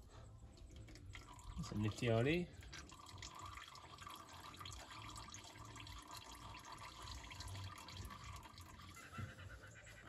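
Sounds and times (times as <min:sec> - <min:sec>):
oil trickling and dripping: 0:00.0 - 0:10.0.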